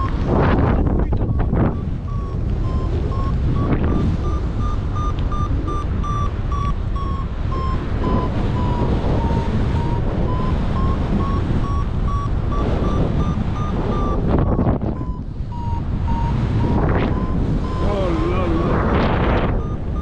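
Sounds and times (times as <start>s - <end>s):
variometer beeping: 0.0s - 20.0s
wind rush on microphone: 0.0s - 20.0s.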